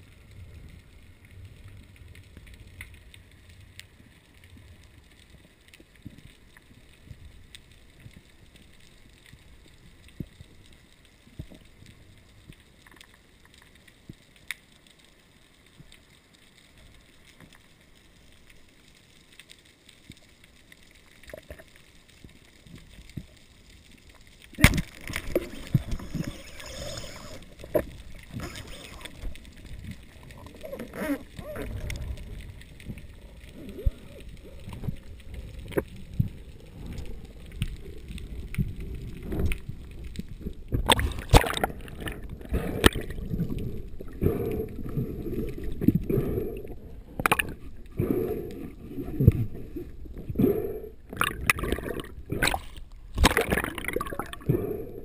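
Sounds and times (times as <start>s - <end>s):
underwater rushing and gurgling: 0.0s - 55.0s.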